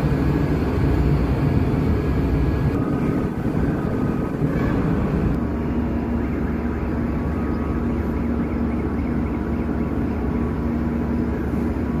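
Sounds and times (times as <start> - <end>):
heavy machinery rumbling: 0.0 - 12.0.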